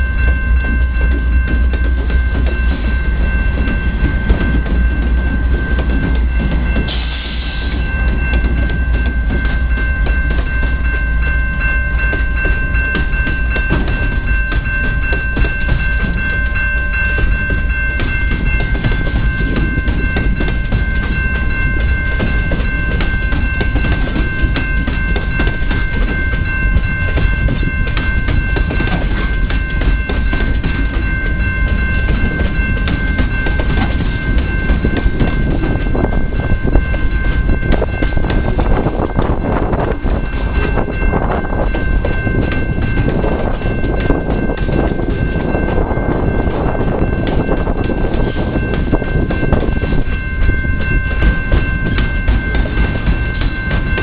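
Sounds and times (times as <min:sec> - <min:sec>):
freight train rumbling and clattering: 0:00.0 - 0:54.0.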